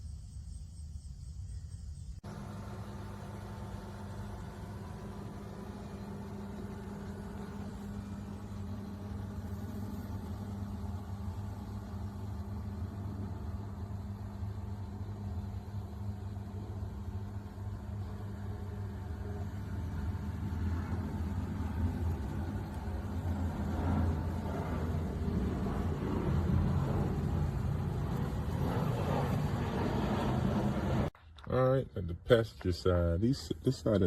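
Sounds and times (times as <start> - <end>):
low engine hum: 2.2 - 31.2.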